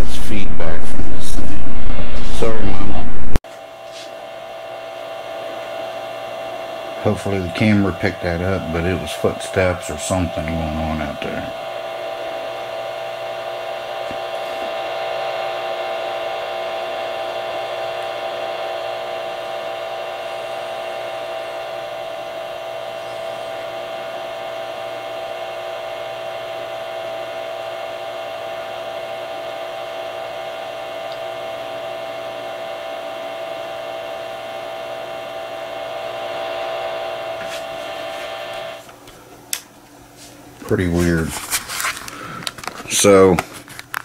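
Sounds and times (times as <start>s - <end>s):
steady electronic hum: 0.0s - 41.3s.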